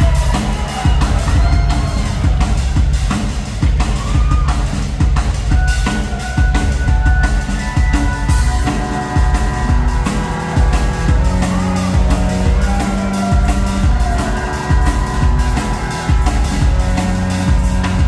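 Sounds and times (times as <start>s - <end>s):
crowd whooping: 0.0s - 18.0s
drum kit beat: 0.0s - 18.0s
heavy bass line: 0.0s - 18.0s.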